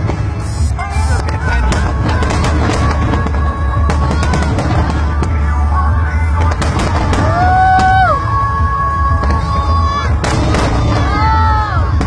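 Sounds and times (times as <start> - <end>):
fireworks cracking: 0.0 - 12.0
loud music playing: 0.0 - 12.0
low rumble: 0.0 - 12.0.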